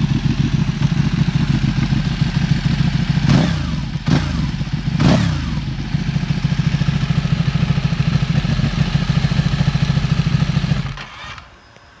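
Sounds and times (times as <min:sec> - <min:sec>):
motorcycle engine revving and idling: 0:00.0 - 0:11.4.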